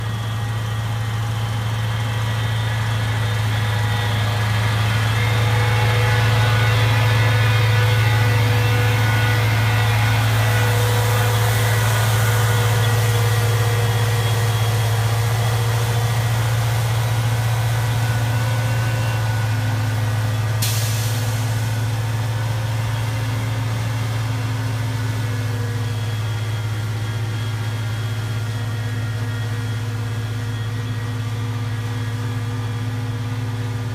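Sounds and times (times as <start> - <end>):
truck engine humming: 0.0 - 33.9.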